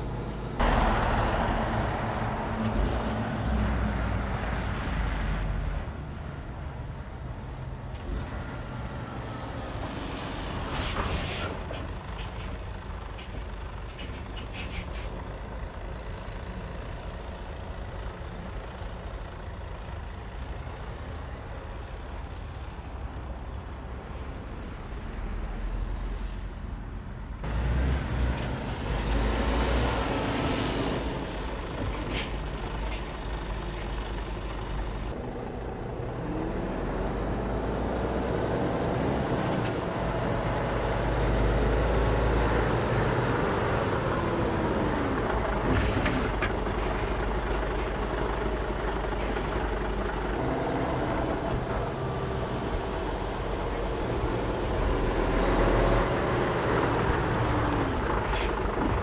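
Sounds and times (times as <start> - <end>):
truck diesel engine rumbling: 0.0 - 59.0.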